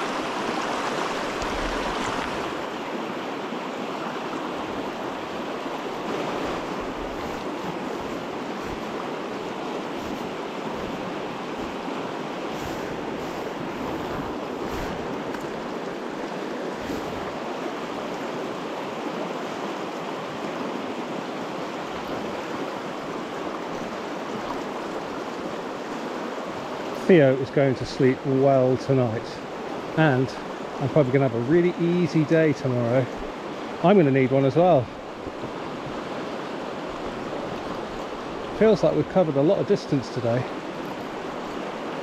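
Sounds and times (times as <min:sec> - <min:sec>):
river water rushing over rocks: 0:00.0 - 0:42.0.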